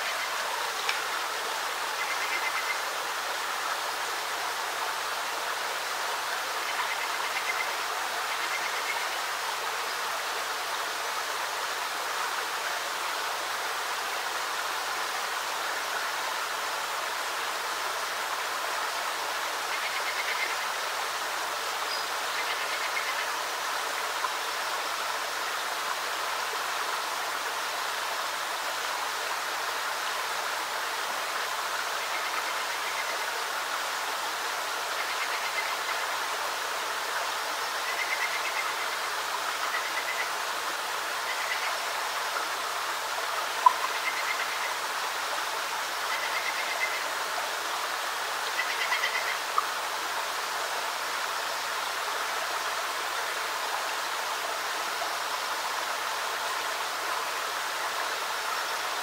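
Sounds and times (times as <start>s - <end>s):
creek water trickling over rocks: 0.0s - 59.0s.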